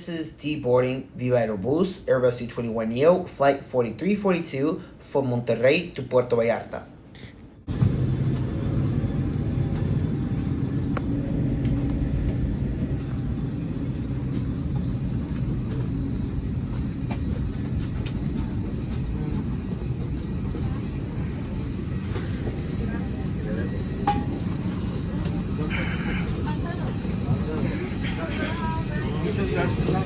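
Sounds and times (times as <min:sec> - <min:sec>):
low mechanical rumble of airliner: 0:00.0 - 0:30.0.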